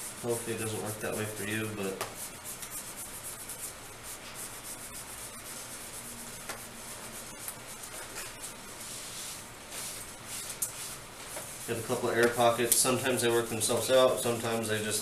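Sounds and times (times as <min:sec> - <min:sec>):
rubbing on a screen: 0:00.0 - 0:15.0.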